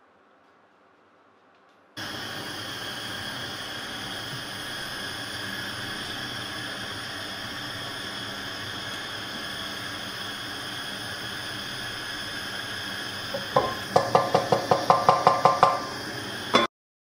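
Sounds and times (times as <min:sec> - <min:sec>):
oil hissing in a wok: 0:02.0 - 0:16.7.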